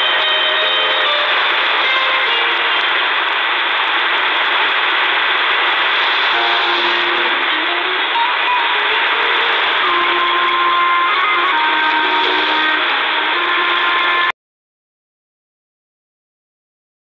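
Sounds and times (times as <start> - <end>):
faint radio tones: 0.0 - 14.3
radio static hiss: 0.0 - 14.3.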